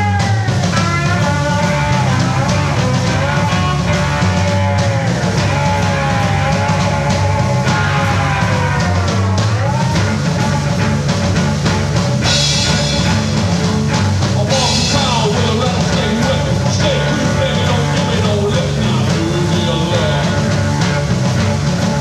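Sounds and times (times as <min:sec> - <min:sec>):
drum and bass groove: 0:00.0 - 0:22.0
slide guitar soloing: 0:00.0 - 0:22.0.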